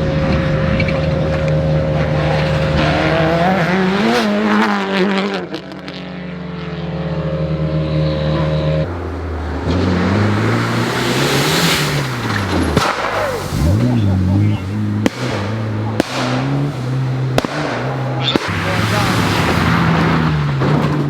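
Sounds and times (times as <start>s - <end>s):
rally car engine revving: 0.0s - 21.0s
second car engine: 0.0s - 21.0s.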